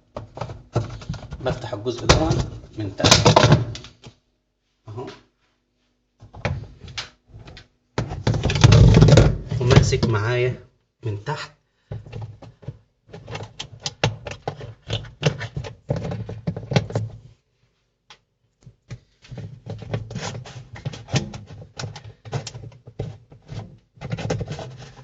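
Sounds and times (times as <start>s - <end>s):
hands clicking and knocking plastic parts: 0.0s - 4.2s, 6.2s - 10.2s, 11.8s - 17.2s, 18.0s - 25.0s.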